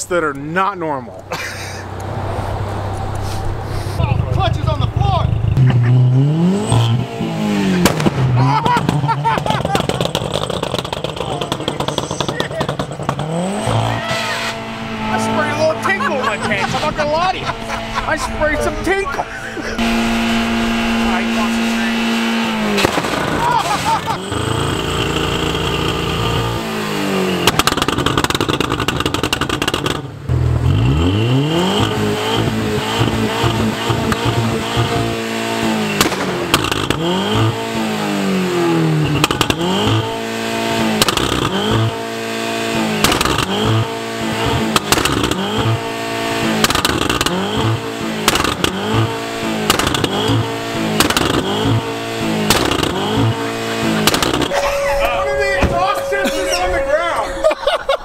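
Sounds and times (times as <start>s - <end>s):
car engine revving: 0.0s - 57.2s
sharp exhaust cracks: 0.0s - 57.2s.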